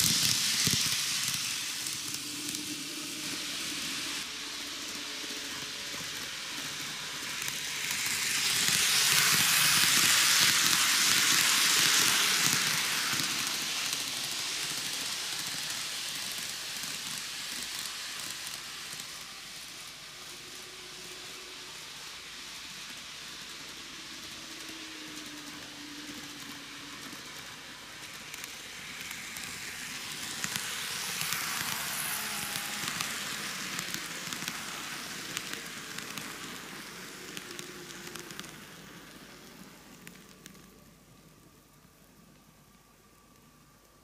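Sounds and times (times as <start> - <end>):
model train wheels rattling on rails: 0.0 - 42.3.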